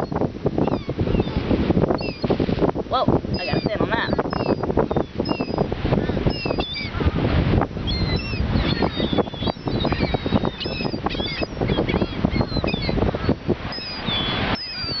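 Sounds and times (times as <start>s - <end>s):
seagulls calling: 0.0s - 2.4s, 3.3s - 15.0s
wind rumble on microphone: 0.0s - 15.0s.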